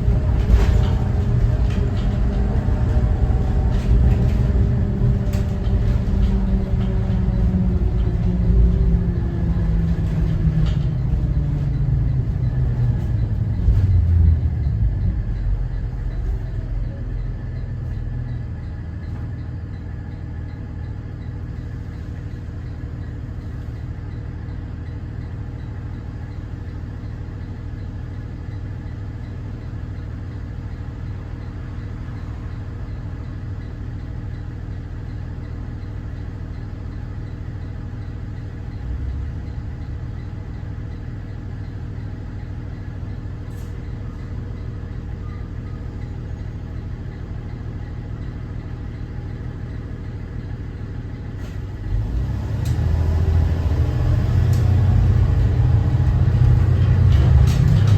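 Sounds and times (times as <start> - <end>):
diesel bus engine droning: 0.0 - 57.9.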